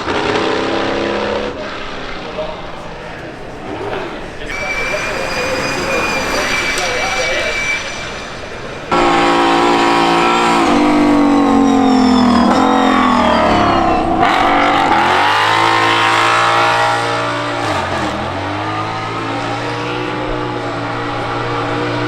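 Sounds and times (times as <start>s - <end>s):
racing car engine under load: 0.0s - 22.0s.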